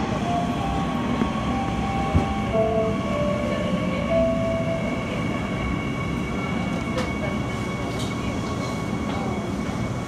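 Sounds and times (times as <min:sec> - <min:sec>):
electric train rumble: 0:00.0 - 0:10.0.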